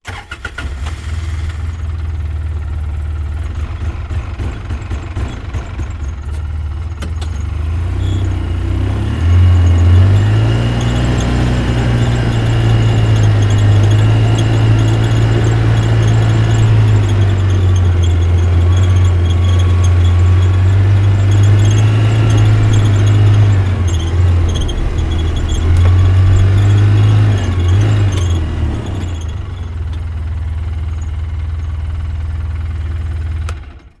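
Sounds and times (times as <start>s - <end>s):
atv engine running: 0.1s - 34.0s.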